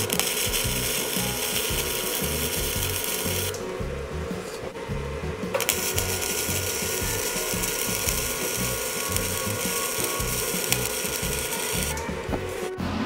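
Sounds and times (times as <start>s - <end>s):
welding arc crackling and hissing: 0.0s - 12.7s.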